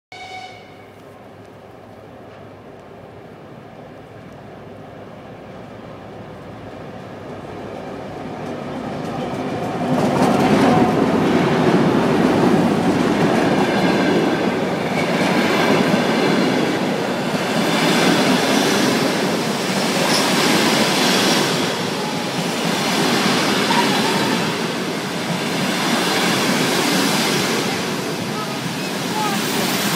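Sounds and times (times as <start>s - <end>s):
locomotive passing: 1.7s - 29.9s.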